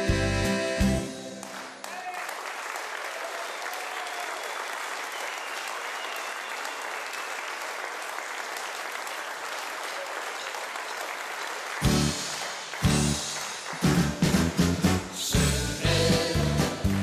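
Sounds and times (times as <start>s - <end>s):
audience applauding: 1.0s - 15.1s, 16.0s - 17.0s.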